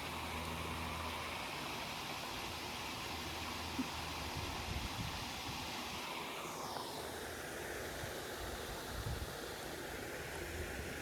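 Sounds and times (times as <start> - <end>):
water rushing over a spillway: 0.0 - 11.0.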